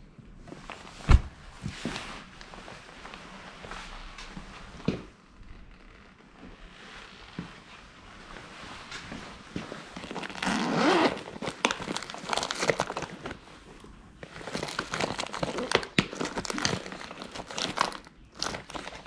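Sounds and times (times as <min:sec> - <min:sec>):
crinkly material rustling: 0:00.4 - 0:19.0.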